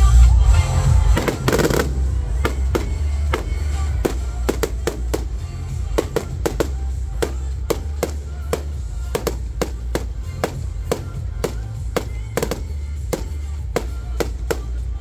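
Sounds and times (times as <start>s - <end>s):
music with bass line: 0.0s - 15.0s
fireworks bangs and pops: 1.0s - 15.0s.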